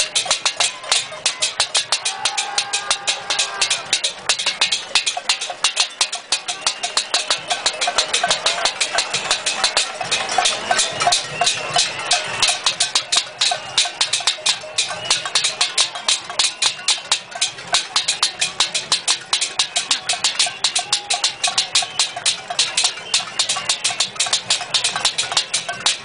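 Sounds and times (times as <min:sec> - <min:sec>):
pots banged with spoons: 0:00.0 - 0:26.0.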